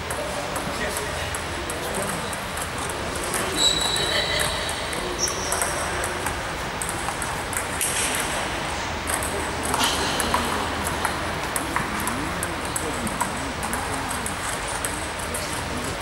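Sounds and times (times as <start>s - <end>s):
table tennis balls clicking: 0.0s - 16.0s.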